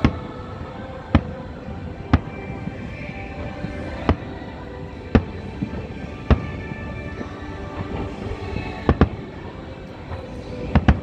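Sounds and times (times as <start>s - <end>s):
music playing: 0.0s - 11.0s.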